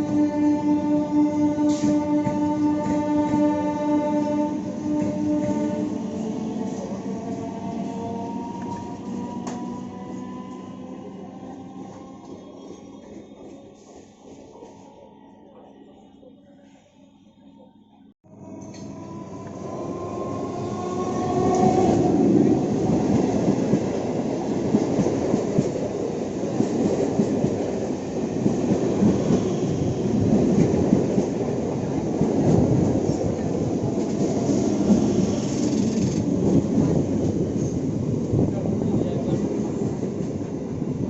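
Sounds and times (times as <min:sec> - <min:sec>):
train wheels rumbling on track: 0:00.0 - 0:14.7, 0:18.4 - 0:41.0
train whine: 0:00.0 - 0:41.0.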